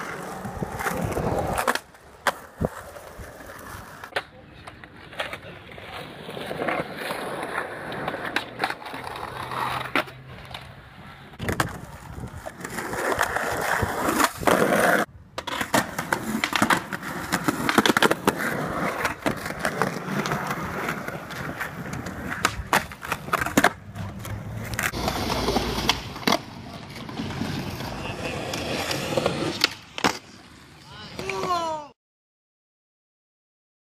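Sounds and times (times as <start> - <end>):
skateboard clacking on ground: 0.0 - 10.8, 11.4 - 30.4
skateboard wheels rolling on concrete: 0.0 - 31.9.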